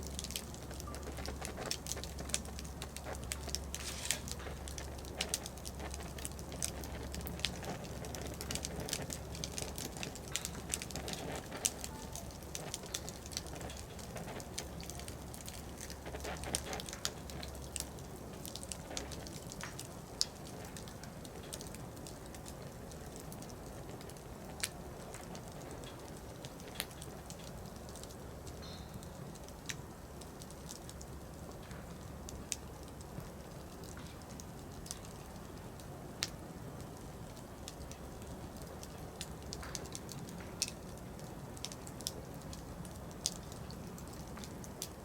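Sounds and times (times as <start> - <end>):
firewood crackling and popping: 0.0 - 45.0
low steady hiss: 0.0 - 45.0.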